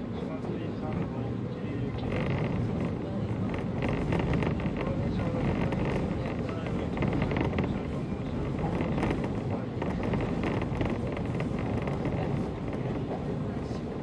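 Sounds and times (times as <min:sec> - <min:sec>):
electric train running noise: 0:00.0 - 0:14.0.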